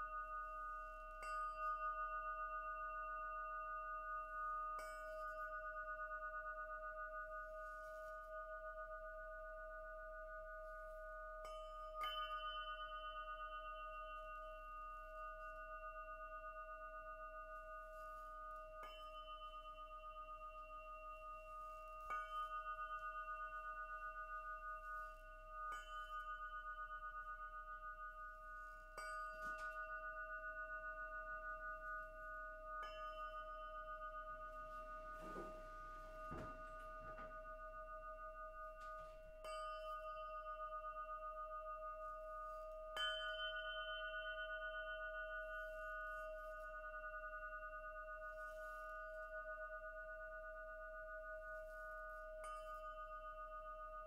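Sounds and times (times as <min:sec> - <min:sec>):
crystal singing pyramid ringing: 0:00.0 - 0:54.0.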